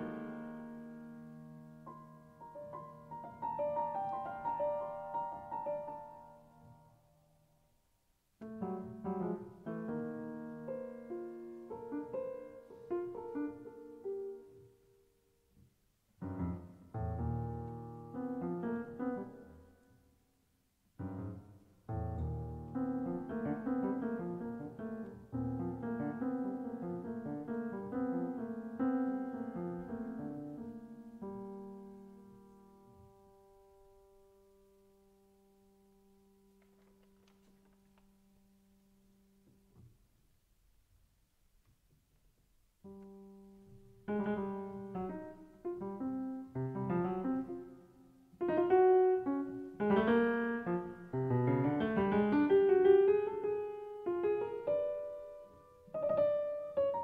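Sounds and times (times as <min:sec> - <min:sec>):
solo piano: 0:00.0 - 0:41.0, 0:41.8 - 0:57.0.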